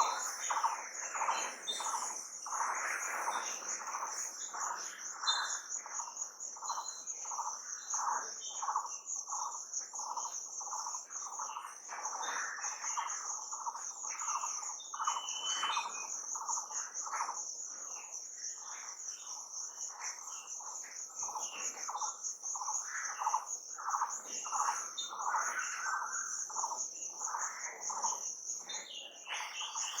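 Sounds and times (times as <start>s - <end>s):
crickets trilling: 0.0s - 30.0s
short lower-pitched insect calls: 0.0s - 30.0s.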